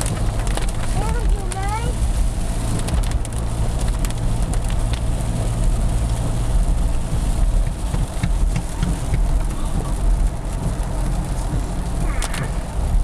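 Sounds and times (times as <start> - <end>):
engine and tyre rumble: 0.0 - 13.0
raindrops ticking on car: 0.0 - 13.0.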